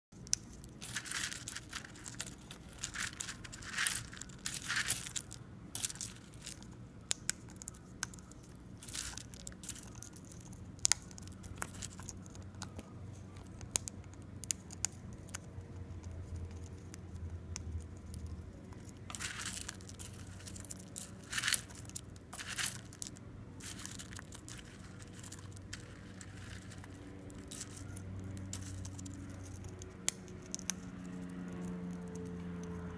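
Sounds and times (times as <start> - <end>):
parrot crunching seed: 0.2 - 32.9.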